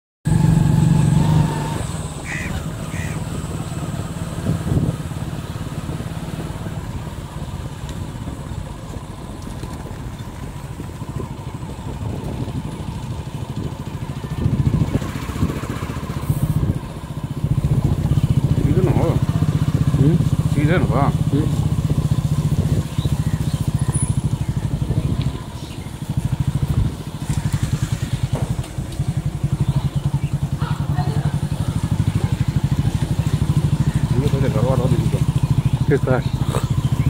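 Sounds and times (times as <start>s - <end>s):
motorcycle engine running: 0.3s - 37.0s.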